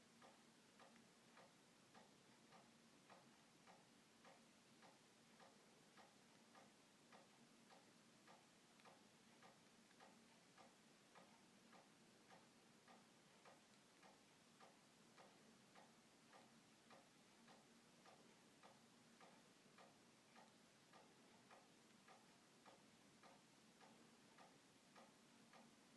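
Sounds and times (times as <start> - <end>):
faint even ticking: 0.0 - 25.9
low steady hum: 0.0 - 25.9.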